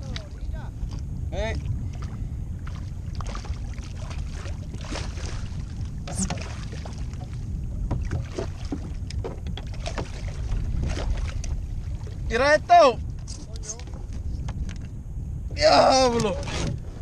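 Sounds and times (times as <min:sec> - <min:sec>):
water splashing and sloshing: 0:00.0 - 0:14.9
wind rumble on microphone: 0:00.0 - 0:17.0.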